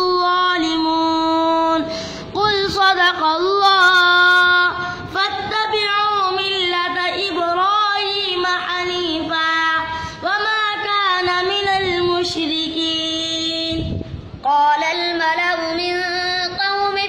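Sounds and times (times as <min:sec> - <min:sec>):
boy chanting melodic recitation: 0:00.0 - 0:17.0.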